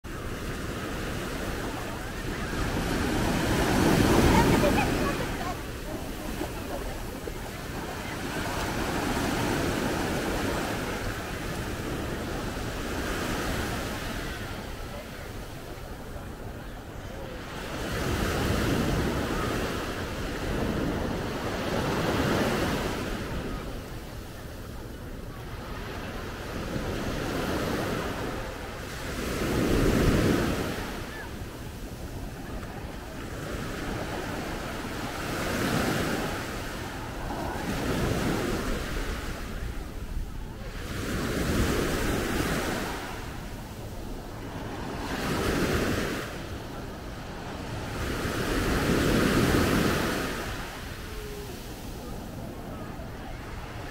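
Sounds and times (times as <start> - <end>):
waves breaking on sandy beach: 0.1 - 53.9.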